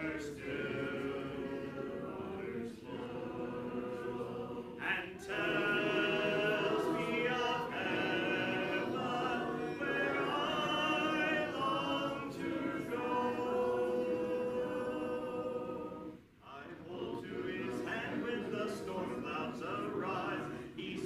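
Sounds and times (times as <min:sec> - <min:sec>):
congregation singing a hymn: 0:00.0 - 0:21.0.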